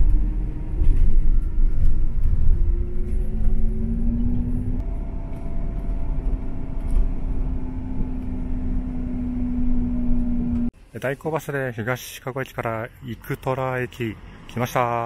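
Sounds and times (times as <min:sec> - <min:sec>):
bus engine: 0:00.0 - 0:10.9, 0:11.9 - 0:15.0
road rumble: 0:00.0 - 0:10.9, 0:11.9 - 0:15.0.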